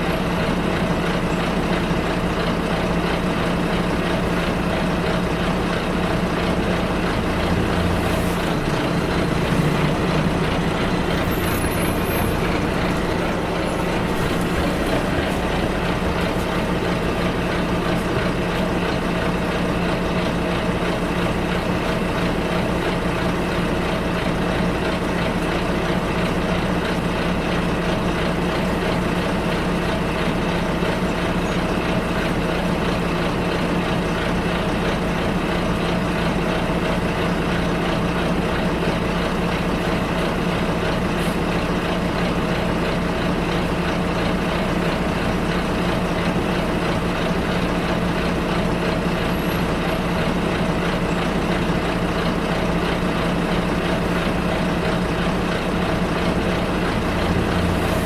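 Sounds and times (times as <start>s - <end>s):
bus engine hum: 0.0s - 58.0s
road and cabin noise: 0.0s - 58.0s.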